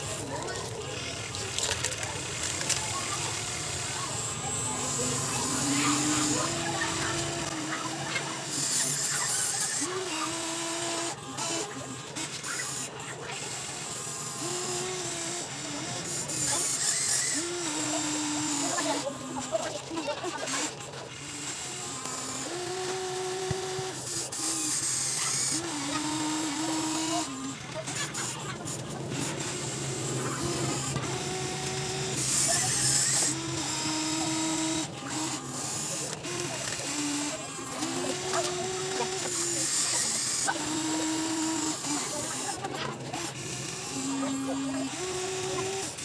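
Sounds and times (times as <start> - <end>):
electric motors whining: 0.0 - 46.0.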